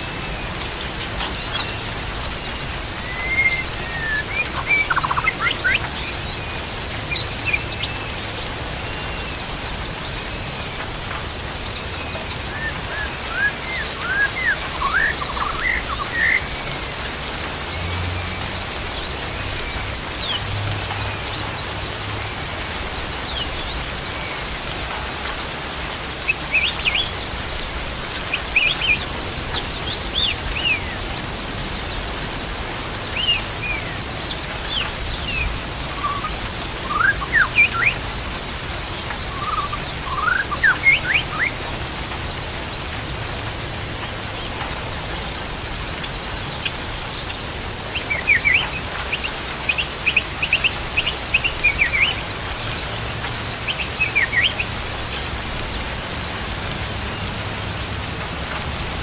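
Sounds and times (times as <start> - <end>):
songbirds chirping and whistling: 0.0 - 59.0
steady hiss: 0.0 - 59.0.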